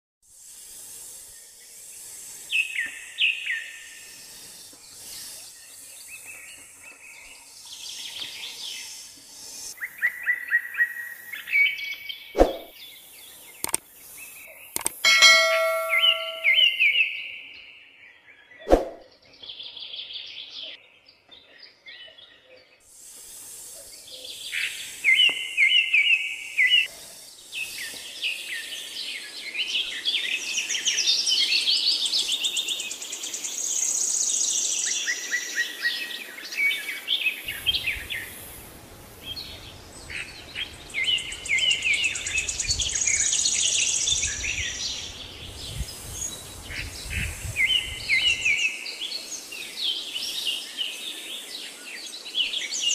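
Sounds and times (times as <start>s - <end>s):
steady outdoor hiss: 0.2s - 52.9s
birds singing and calling: 1.3s - 23.0s, 23.6s - 52.9s.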